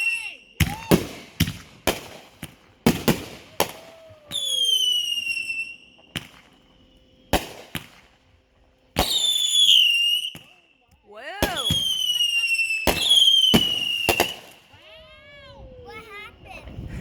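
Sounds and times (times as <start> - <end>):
whistling firework shots: 0.0 - 15.0
fireworks bangs: 0.0 - 15.5.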